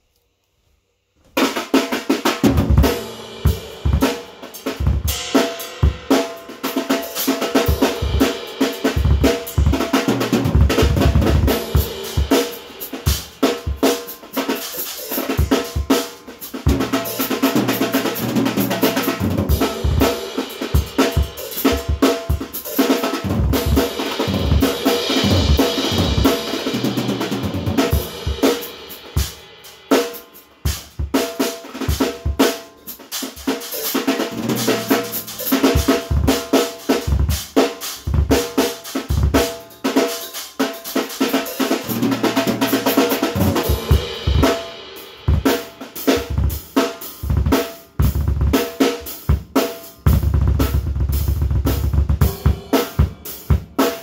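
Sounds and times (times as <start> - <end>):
drum kit playing: 1.3 - 54.0.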